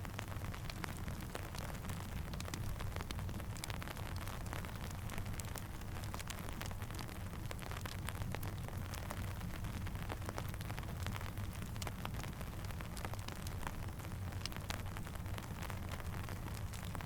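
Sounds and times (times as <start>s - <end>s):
campfire crackling: 0.0s - 17.0s
steady rain hiss: 0.0s - 17.0s.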